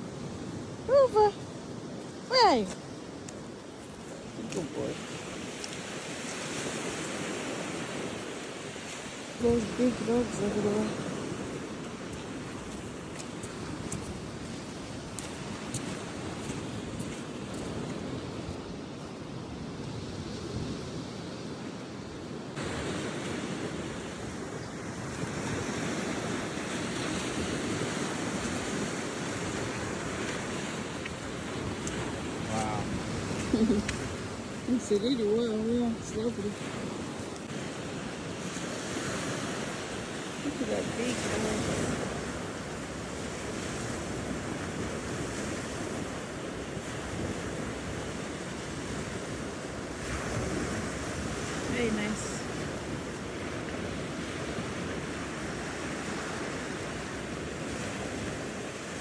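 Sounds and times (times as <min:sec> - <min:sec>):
ocean surf breaking: 0:00.0 - 0:18.4, 0:22.6 - 0:59.0
wind on microphone: 0:00.0 - 0:59.0.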